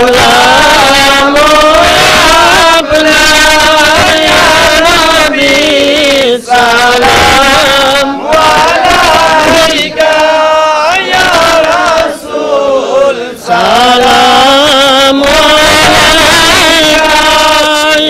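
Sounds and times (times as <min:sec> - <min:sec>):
man chanting devotional song: 0:00.0 - 0:18.0.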